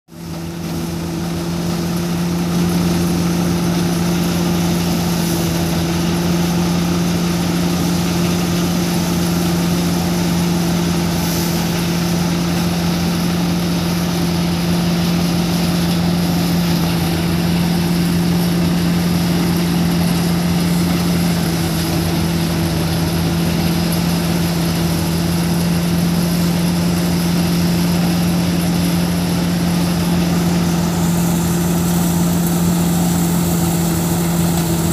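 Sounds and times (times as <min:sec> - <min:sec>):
thresher and tractor engine droning: 0:00.1 - 0:34.9.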